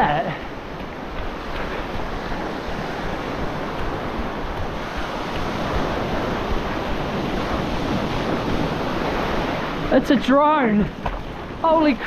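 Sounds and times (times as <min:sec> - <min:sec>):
waves washing on shore: 0:00.0 - 0:12.0
wind buffeting microphone: 0:00.0 - 0:12.0.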